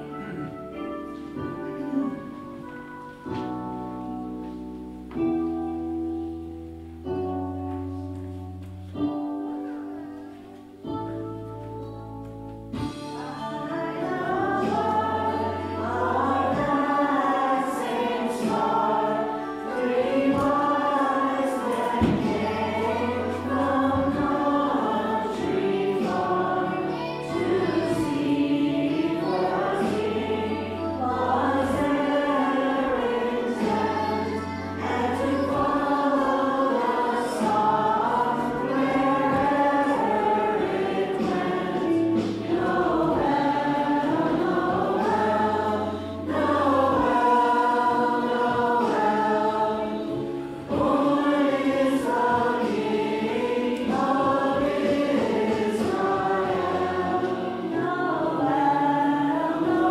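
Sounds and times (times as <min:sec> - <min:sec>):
choir singing a carol: 0:00.0 - 0:06.4, 0:12.7 - 0:59.9.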